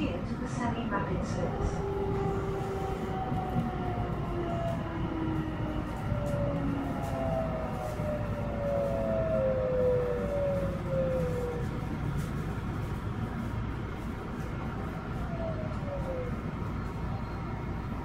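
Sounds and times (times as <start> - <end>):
wheels rumbling on track: 0.0 - 18.0.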